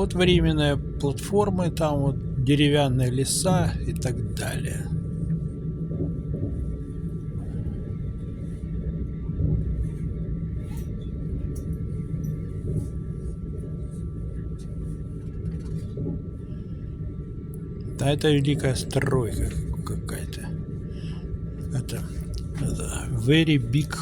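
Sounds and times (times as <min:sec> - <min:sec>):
electric train rumble: 0:00.0 - 0:24.0
faint high whine: 0:00.0 - 0:24.0.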